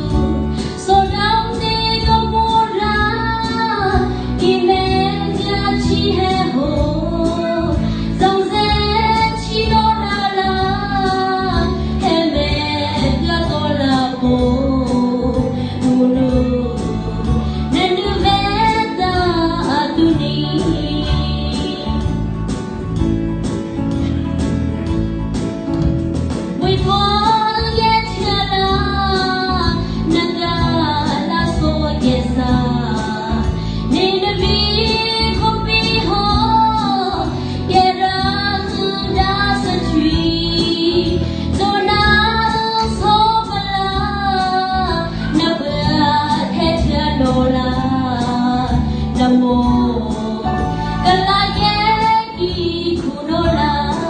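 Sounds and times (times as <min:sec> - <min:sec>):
woman singing into a microphone: 0:00.0 - 0:22.4, 0:26.6 - 0:54.0.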